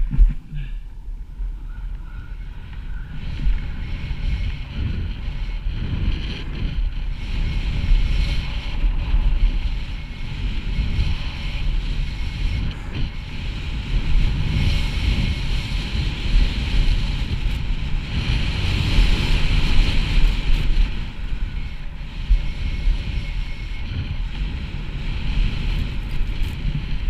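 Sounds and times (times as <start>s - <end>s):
wind buffeting microphone: 0.0s - 27.0s
snowboard scraping over snow: 3.1s - 27.0s.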